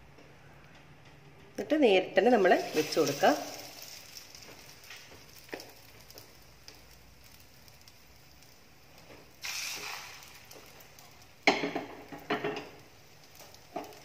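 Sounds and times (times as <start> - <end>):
bread frying in oil: 1.6 - 14.0.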